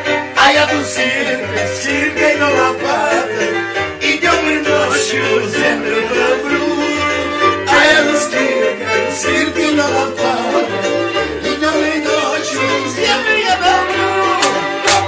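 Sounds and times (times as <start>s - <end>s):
upbeat music with bass line: 0.0s - 15.0s.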